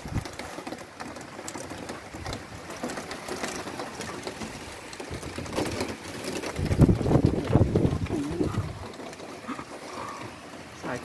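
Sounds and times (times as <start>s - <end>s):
rain hissing: 0.0s - 11.0s
raindrops pattering on surface: 0.0s - 11.0s.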